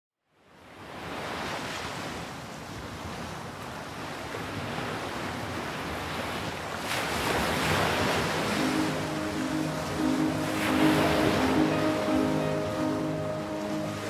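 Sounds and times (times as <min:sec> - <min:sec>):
sea waves breaking on shore: 0:00.6 - 0:14.0.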